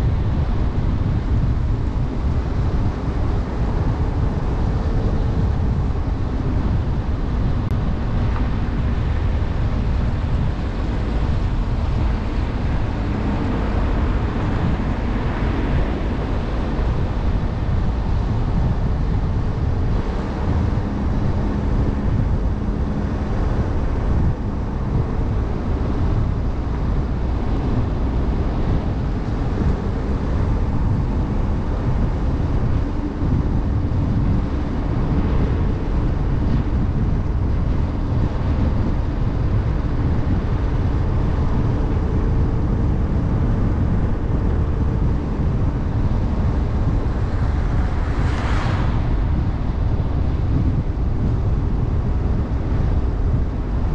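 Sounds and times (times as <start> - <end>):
faint engine drone: 0.0 - 53.9
tyre and road rumble: 0.0 - 53.9.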